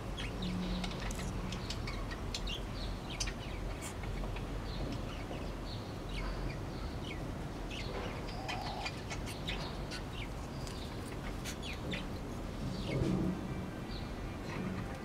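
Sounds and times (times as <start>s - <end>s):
birds chirping: 0.0s - 13.1s.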